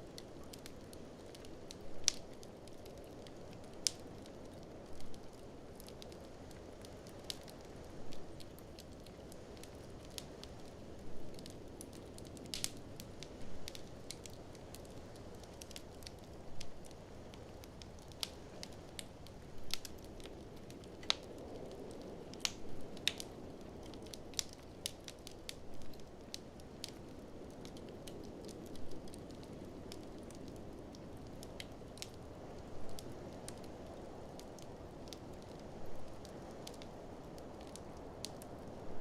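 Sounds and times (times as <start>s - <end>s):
fireplace fire crackling: 0.0s - 39.0s.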